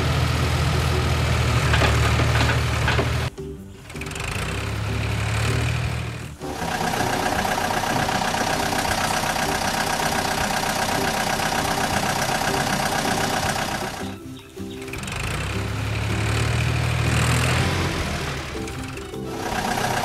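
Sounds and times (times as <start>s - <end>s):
motor running: 0.0s - 20.0s.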